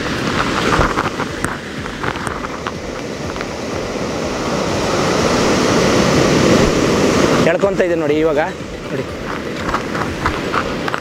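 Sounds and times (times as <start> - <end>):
rough surf washing up beach: 0.0 - 11.0
wind buffeting microphone: 0.0 - 11.0.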